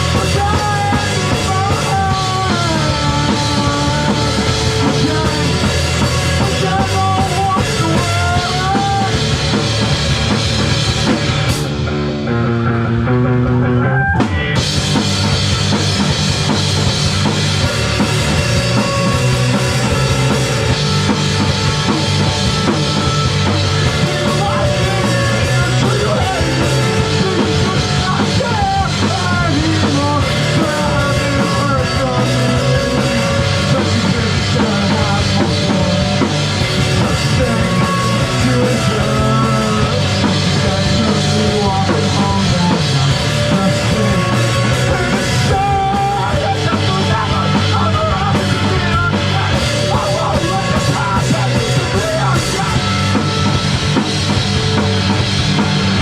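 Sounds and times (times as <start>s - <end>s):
person singing: 0.0s - 9.6s, 17.3s - 54.4s
live rock band playing: 0.0s - 56.0s.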